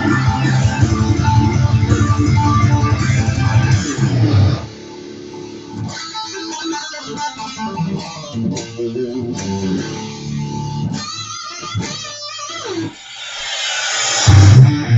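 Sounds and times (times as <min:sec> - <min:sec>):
plucked guitar music: 0:00.0 - 0:13.0, 0:14.3 - 0:14.9.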